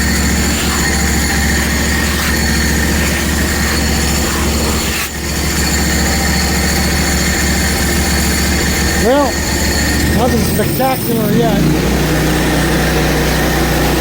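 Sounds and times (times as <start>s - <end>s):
band sawmill engine hum: 0.0s - 14.0s
high whining tones: 0.0s - 14.0s.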